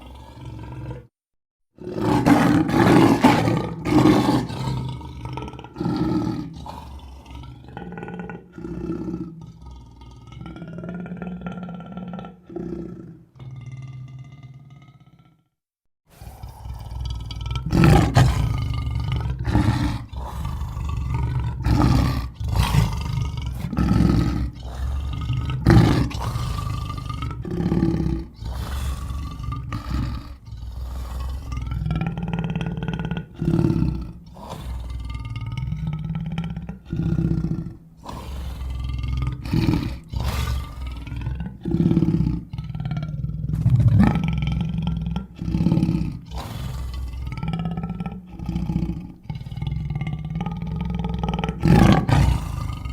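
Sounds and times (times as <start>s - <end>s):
lion roaring and growling: 0.0s - 1.1s, 1.8s - 15.5s, 16.1s - 52.9s.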